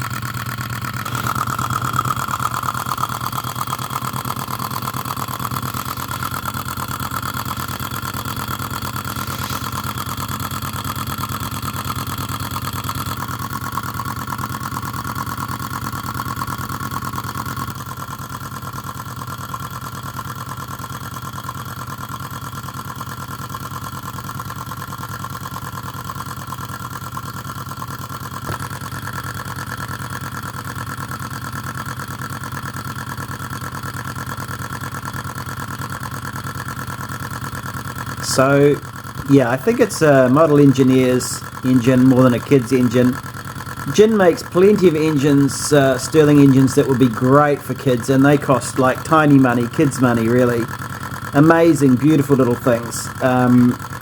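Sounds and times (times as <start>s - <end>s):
hot-air engine running: 0.0s - 22.5s, 27.3s - 54.0s
water pump working: 0.0s - 54.0s.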